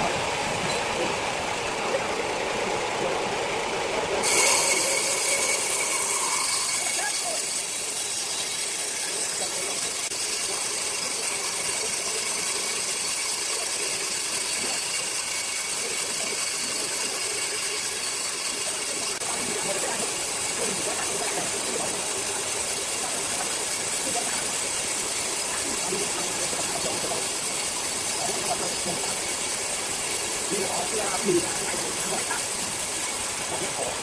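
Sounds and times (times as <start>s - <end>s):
circular saw running: 0.0s - 34.0s.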